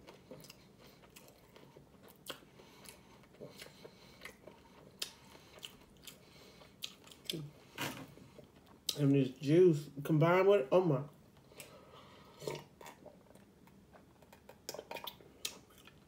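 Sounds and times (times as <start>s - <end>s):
person chewing crunchy food: 0.0s - 9.0s, 11.4s - 16.0s.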